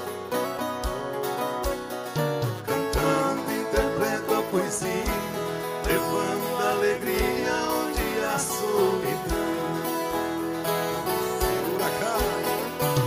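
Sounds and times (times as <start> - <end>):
live country band music: 0.0 - 13.0.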